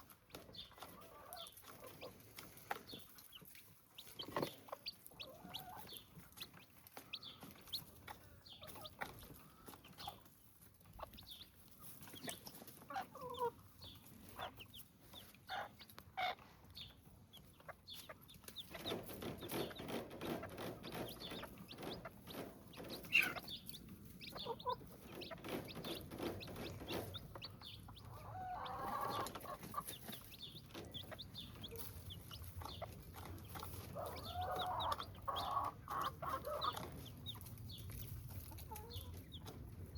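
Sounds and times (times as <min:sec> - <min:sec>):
chickens clucking and chicks peeping: 0:00.0 - 0:39.9.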